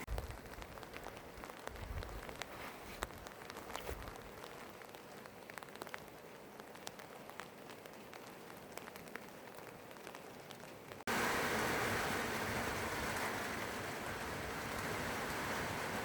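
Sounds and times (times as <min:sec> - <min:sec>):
rain drops ticking on surface: 0:00.0 - 0:16.0.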